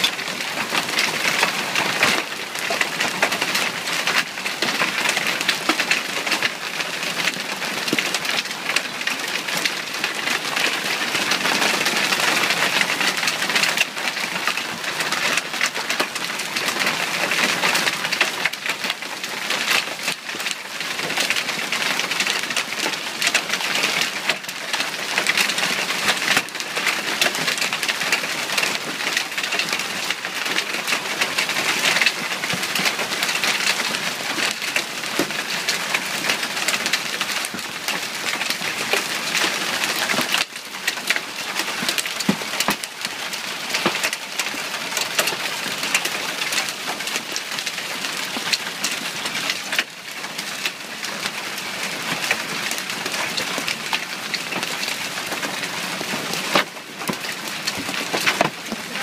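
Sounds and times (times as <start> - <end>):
hailstones pelting down: 0.0 - 59.0.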